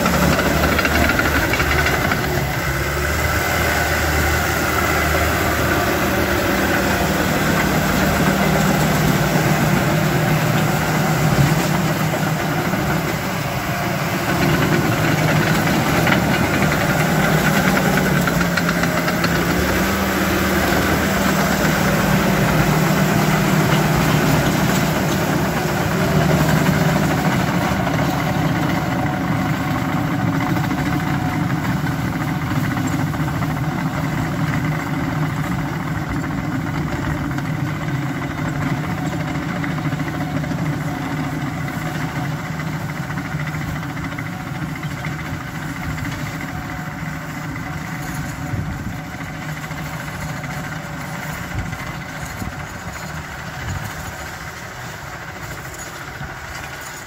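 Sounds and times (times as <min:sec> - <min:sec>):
dozer diesel engine running: 0:00.0 - 0:57.0.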